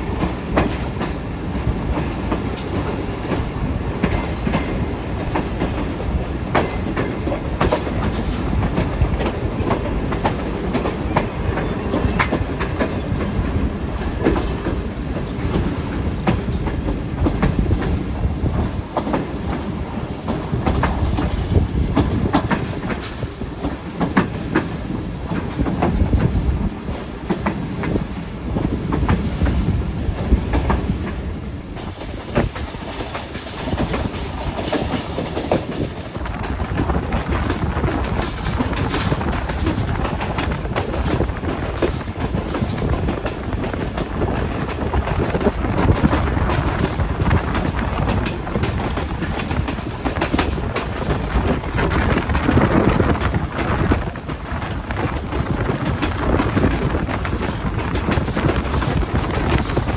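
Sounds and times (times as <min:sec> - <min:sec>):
train carriages rumbling: 0:00.0 - 0:59.9
wheels clacking over rail joints: 0:00.0 - 0:59.9.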